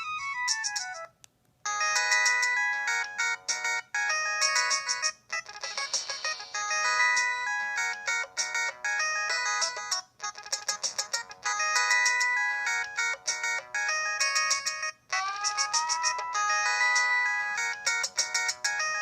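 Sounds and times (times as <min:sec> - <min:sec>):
synthesized phone ringtone melody: 0:00.0 - 0:01.1, 0:01.7 - 0:19.0.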